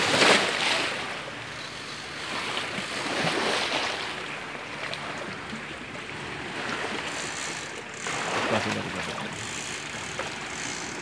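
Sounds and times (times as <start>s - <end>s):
seawater lapping: 0.0s - 11.0s.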